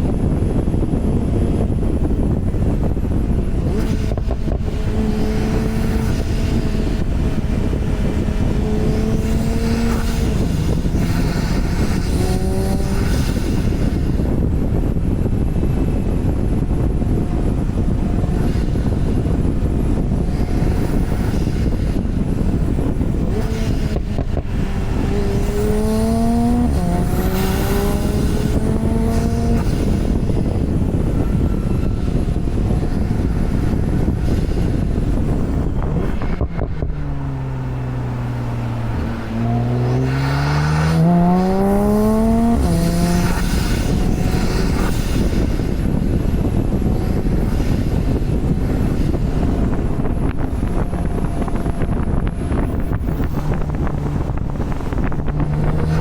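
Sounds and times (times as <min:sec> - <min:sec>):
car engine accelerating: 0:00.0 - 0:56.0
gear change: 0:00.0 - 0:56.0
road noise: 0:00.0 - 0:56.0
wind noise: 0:00.0 - 0:56.0.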